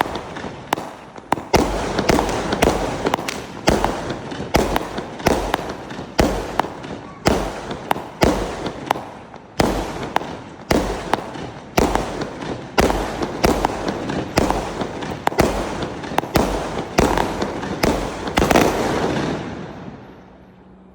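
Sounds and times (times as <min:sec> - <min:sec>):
fireworks bangs with crackle: 0:00.0 - 0:20.0.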